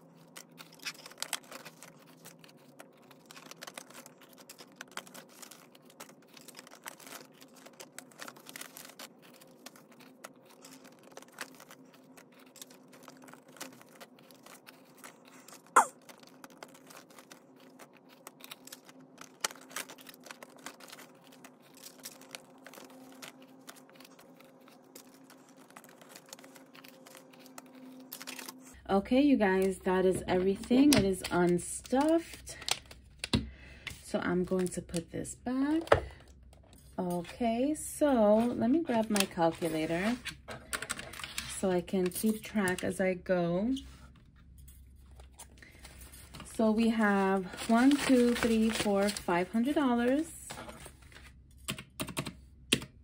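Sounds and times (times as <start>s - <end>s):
banknotes rustling and flicking: 0.0s - 35.0s, 35.6s - 43.0s, 43.8s - 52.9s.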